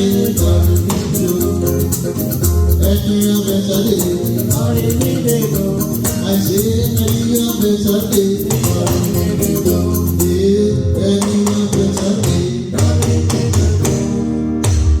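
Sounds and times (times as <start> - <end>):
guitar: 0.0 - 15.0
steady drum beat: 0.0 - 15.0.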